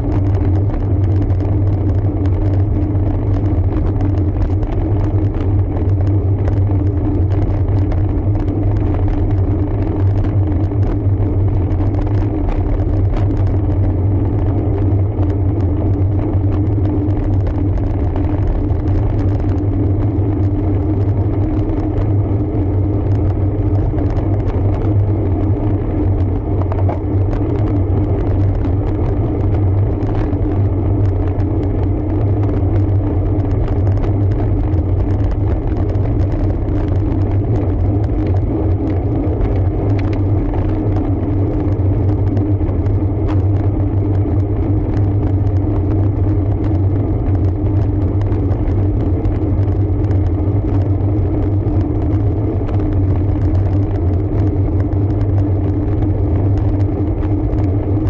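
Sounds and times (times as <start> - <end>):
bicycle riding rumble: 0.0 - 58.0
wind noise on microphone: 0.0 - 58.0.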